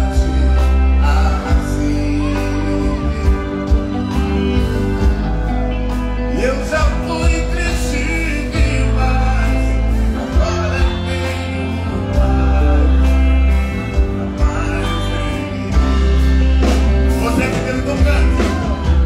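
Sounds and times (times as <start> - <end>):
band with heavy pulsing bass: 0.0 - 19.0
man singing: 0.0 - 19.0.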